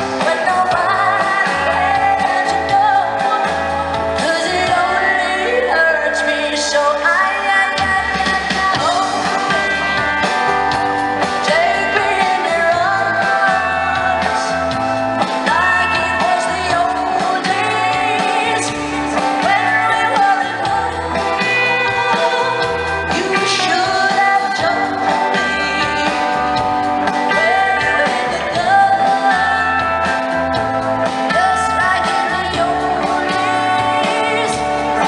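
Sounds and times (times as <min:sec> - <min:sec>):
electric bass: 0:00.0 - 0:35.0
woman singing: 0:00.0 - 0:35.0.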